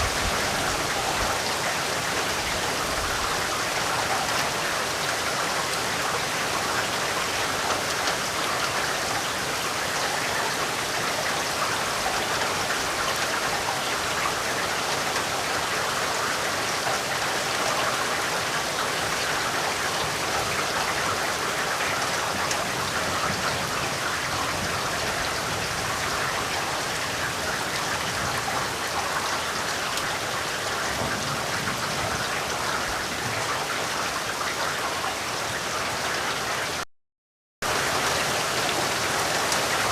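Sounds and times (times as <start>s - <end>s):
heavy rain falling: 0.0s - 36.9s, 37.6s - 39.9s.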